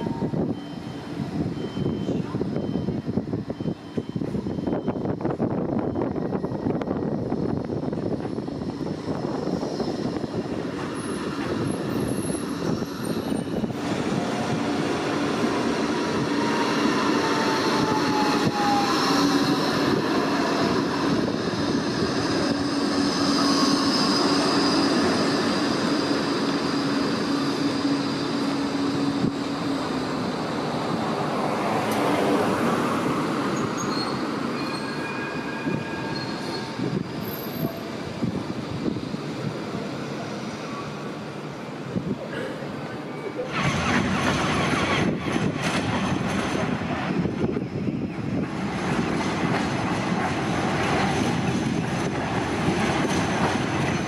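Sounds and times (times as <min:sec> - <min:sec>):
tram passing with hum and whine: 0:00.0 - 0:54.0
wheels squealing on rails: 0:00.0 - 0:54.0.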